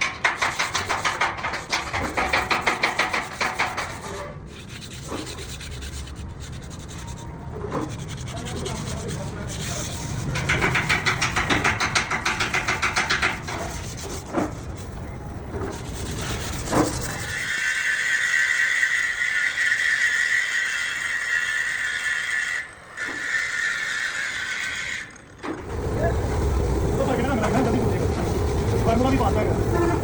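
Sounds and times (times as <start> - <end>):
fast rhythmic scraping on metal: 0.0 - 30.0
low workshop noise: 0.0 - 30.0.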